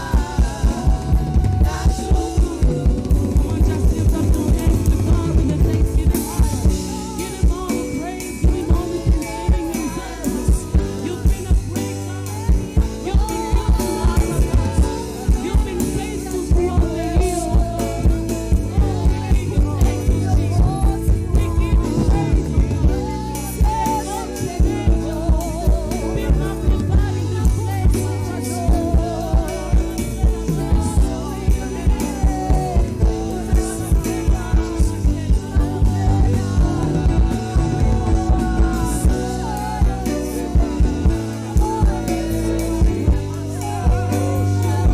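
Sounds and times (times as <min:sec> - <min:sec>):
drum kit beat: 0:00.0 - 0:44.9
gospel band playing: 0:00.0 - 0:44.9
person singing: 0:00.0 - 0:44.9.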